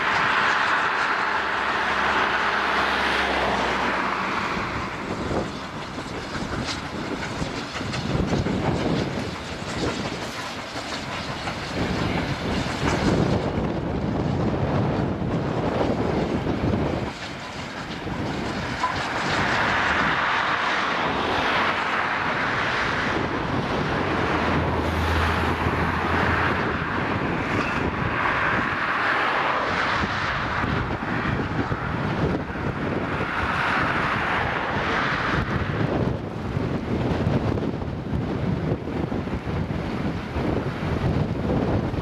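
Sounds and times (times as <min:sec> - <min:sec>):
distant steam locomotive: 0:00.0 - 0:42.0
wind buffeting microphone: 0:00.0 - 0:42.0.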